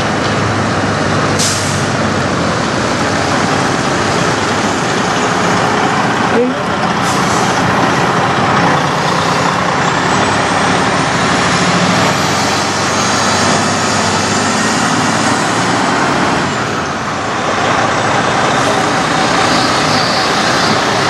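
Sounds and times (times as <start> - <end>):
truck diesel engine: 0.0 - 21.0.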